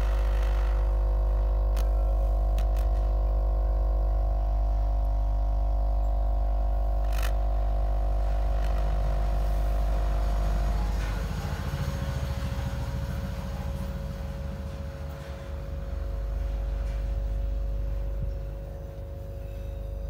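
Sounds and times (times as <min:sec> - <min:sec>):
air pump humming: 0:00.0 - 0:20.0
gas flame rumble: 0:00.0 - 0:20.0.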